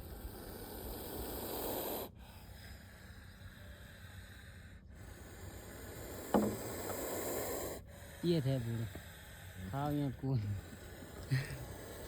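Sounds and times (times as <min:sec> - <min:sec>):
snake hissing: 0:00.0 - 0:12.0.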